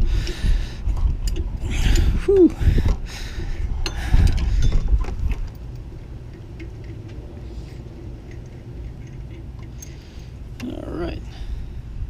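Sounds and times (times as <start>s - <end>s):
tools and parts being handled: 1.0s - 10.8s.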